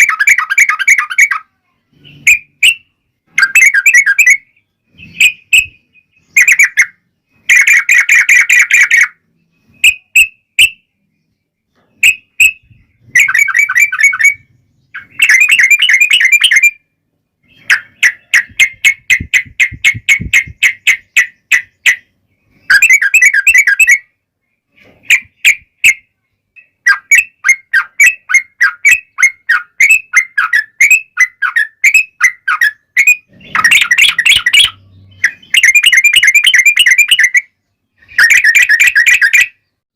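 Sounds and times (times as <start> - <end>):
bulbuls singing: 0.0 - 39.8.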